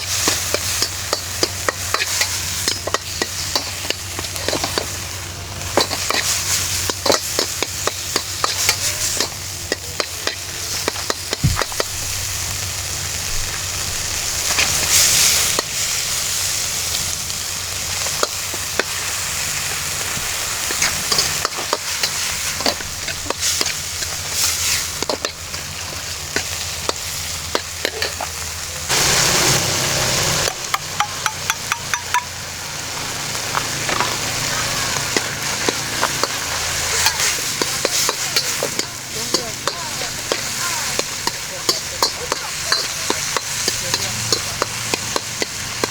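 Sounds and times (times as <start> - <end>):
cooking utensil scraping: 0.0 - 12.3, 19.9 - 45.9
food sizzling in a pan: 0.0 - 45.9.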